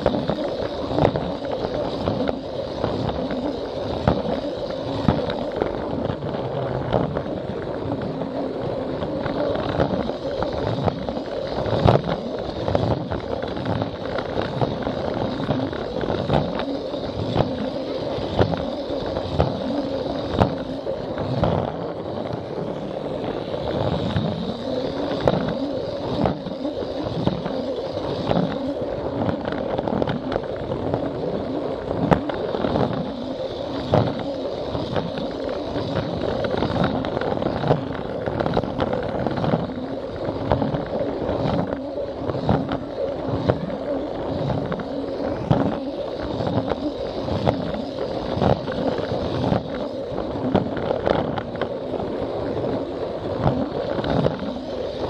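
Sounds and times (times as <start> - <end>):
toy train motor whirring: 0.0 - 55.0.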